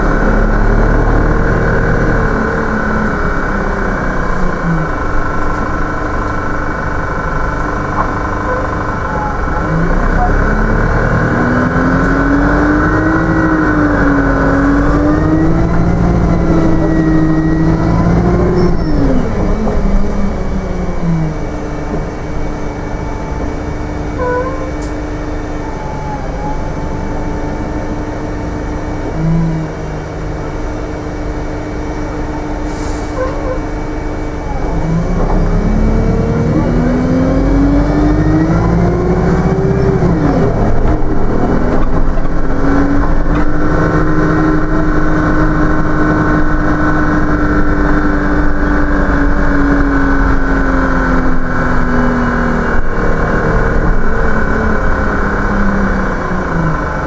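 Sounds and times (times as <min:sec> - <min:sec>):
bus engine and drivetrain: 0:00.0 - 0:57.0.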